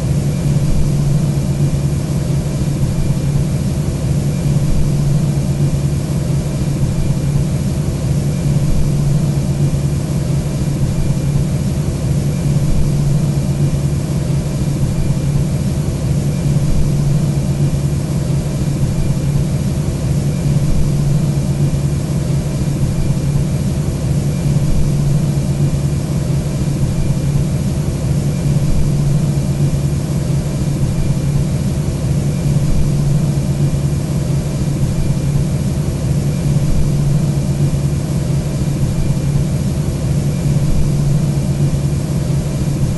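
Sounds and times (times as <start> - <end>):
low cabin hum: 0.0 - 11.6, 16.2 - 42.9.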